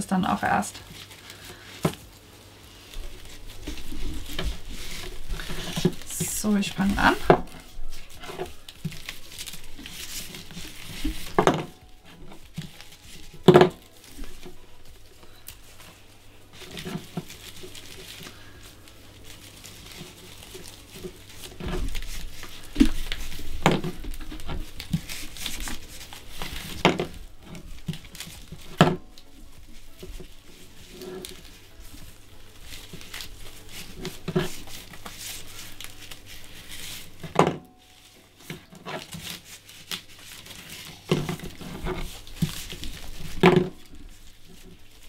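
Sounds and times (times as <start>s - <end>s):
dried flowers rustling: 0.0s - 45.0s.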